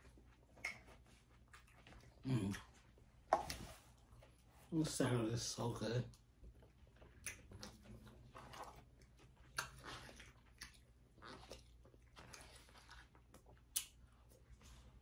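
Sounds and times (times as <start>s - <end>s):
faint chewing: 0.0s - 4.6s, 6.1s - 15.0s.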